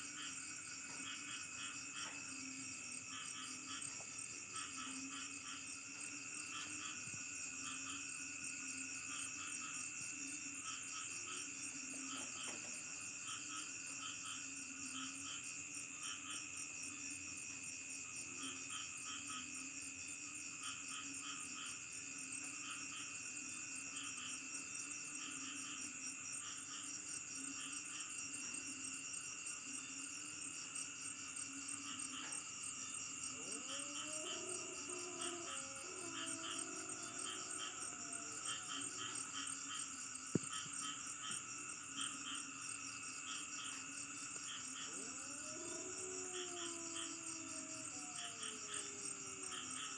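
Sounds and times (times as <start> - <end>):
crickets and insects trilling: 0.0 - 49.9.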